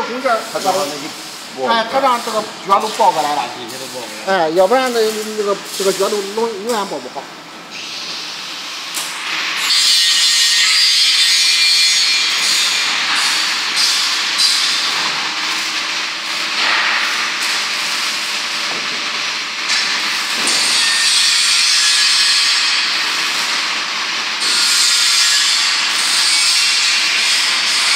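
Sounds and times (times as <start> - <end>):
rushing hissing machine noise: 0.0 - 26.8.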